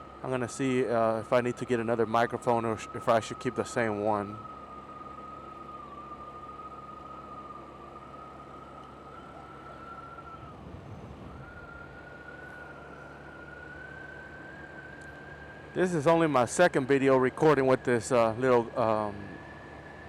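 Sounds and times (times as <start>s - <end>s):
scooter engine whining: 0.0s - 20.0s.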